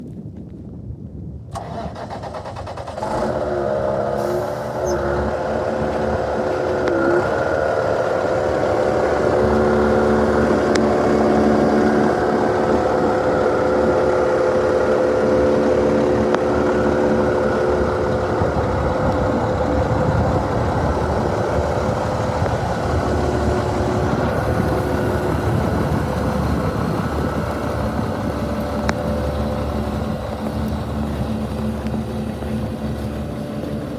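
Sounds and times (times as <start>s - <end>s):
diesel truck engine starting and idling: 1.5s - 33.9s.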